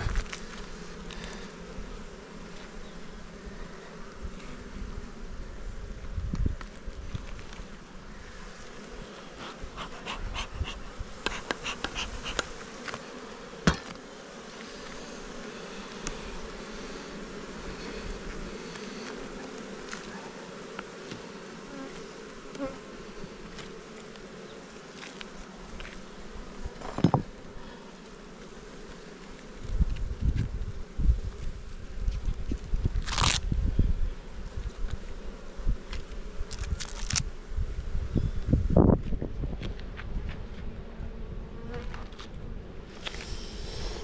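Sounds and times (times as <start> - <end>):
bees buzzing: 0.0 - 32.8, 39.8 - 44.0.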